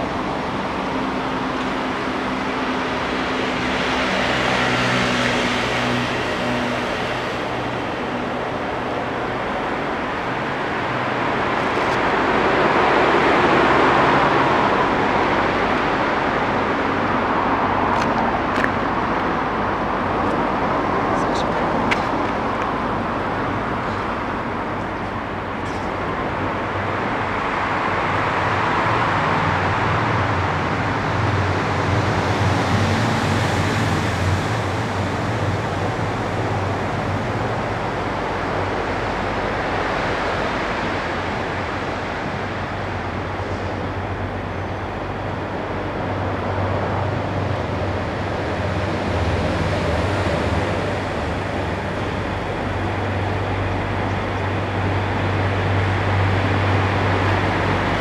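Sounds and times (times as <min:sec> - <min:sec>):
diesel locomotive engine hum: 0:00.0 - 0:58.0
road traffic rushing: 0:00.0 - 0:58.0.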